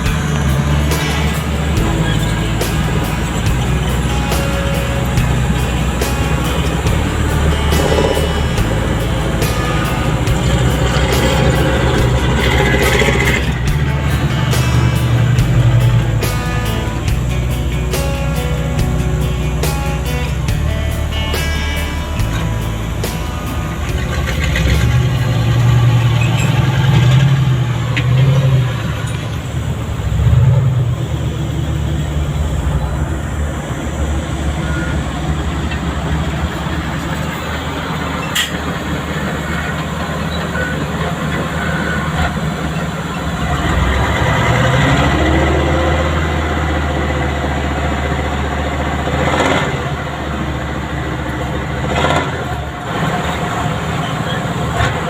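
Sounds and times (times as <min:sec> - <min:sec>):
heavy diesel engines working: 0:00.0 - 0:55.0.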